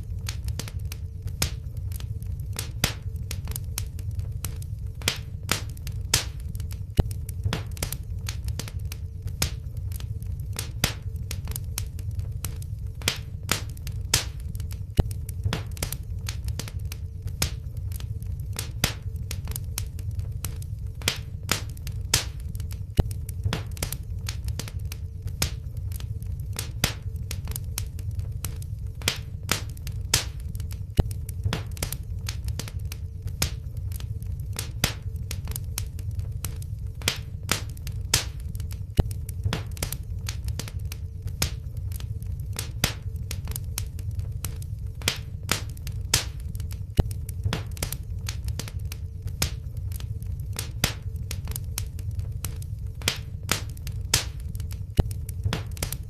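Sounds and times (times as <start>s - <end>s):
faint steady hum: 0.0s - 56.0s
low rumble of burning: 0.0s - 56.0s
wood fire crackling and popping: 0.0s - 56.0s.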